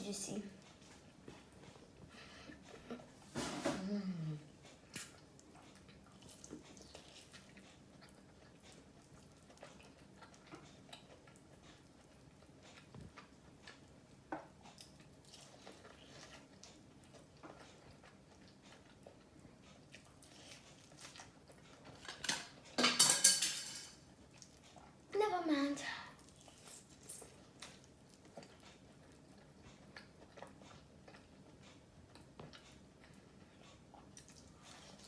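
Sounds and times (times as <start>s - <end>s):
person chewing fried chicken: 4.5s - 22.7s, 24.0s - 25.1s, 26.2s - 35.0s.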